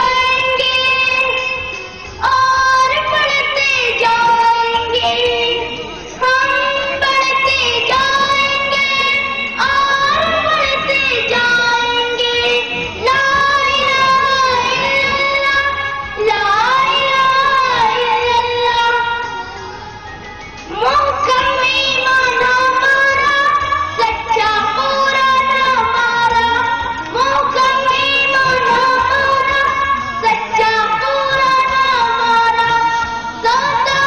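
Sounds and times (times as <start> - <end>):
boy singing into a microphone: 0.0 - 20.1, 20.7 - 34.0.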